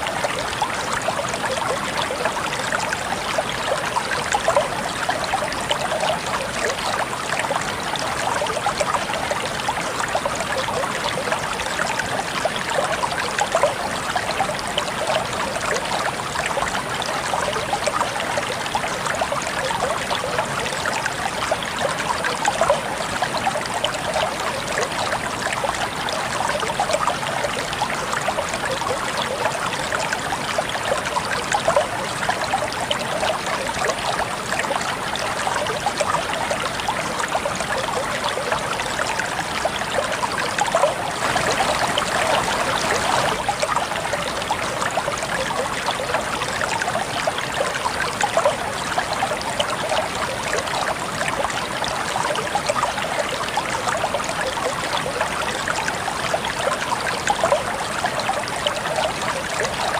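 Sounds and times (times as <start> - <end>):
stream water burbling: 0.0 - 59.9.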